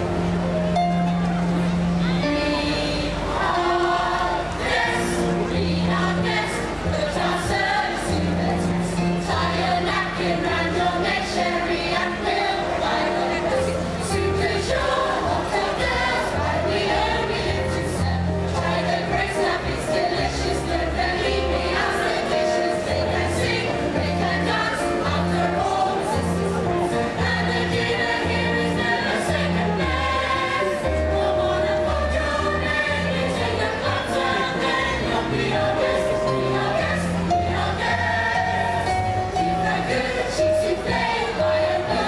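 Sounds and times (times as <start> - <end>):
instrumental accompaniment with bass: 0.0 - 42.0
group of voices singing: 2.0 - 42.0.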